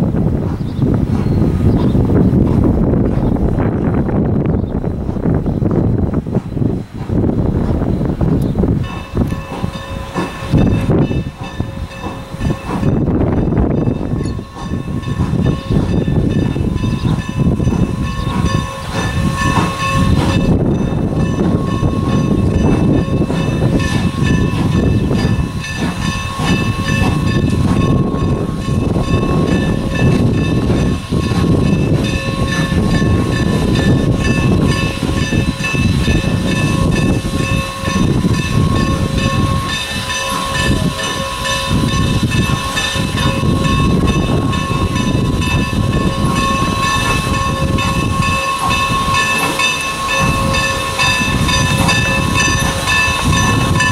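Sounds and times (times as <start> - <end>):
steam locomotive rumble: 0.0 - 53.9.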